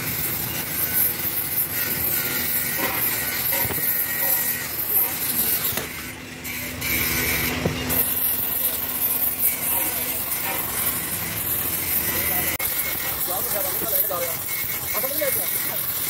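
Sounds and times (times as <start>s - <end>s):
welding torch hissing: 0.0s - 16.0s.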